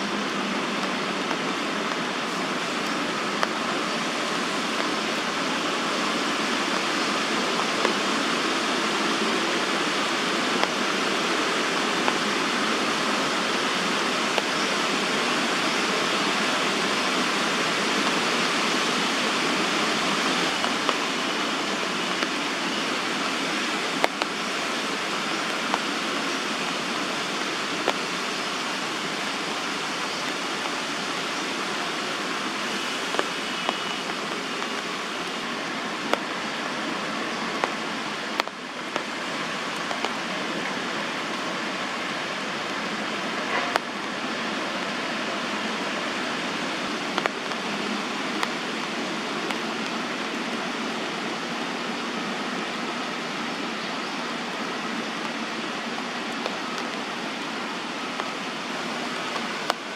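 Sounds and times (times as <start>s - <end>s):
rain on tree canopy: 0.0s - 59.9s.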